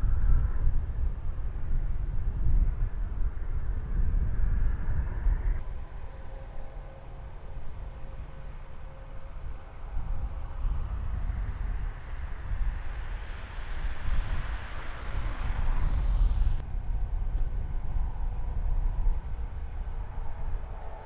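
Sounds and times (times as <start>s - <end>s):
freeway traffic noise: 0.0s - 21.0s
wind rumbling on microphone: 0.0s - 21.0s.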